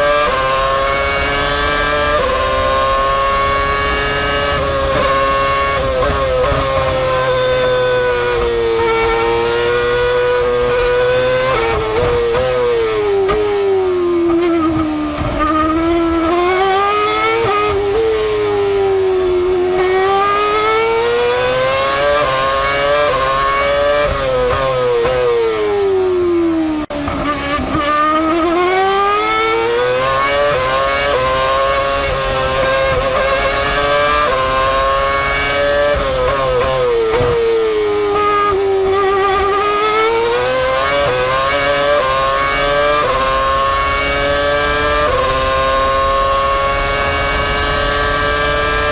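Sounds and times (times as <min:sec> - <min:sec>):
racing car engine revving: 0:00.0 - 0:48.9.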